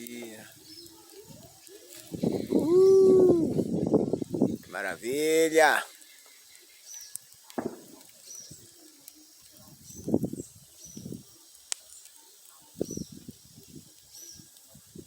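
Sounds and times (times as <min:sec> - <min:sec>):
bonfire crackling: 0:00.0 - 0:15.0
fire popping: 0:00.0 - 0:15.0.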